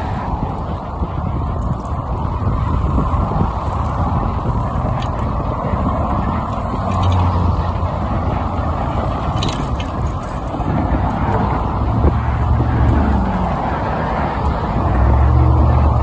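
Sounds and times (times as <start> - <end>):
bike rattling over pavement: 0.0 - 16.0.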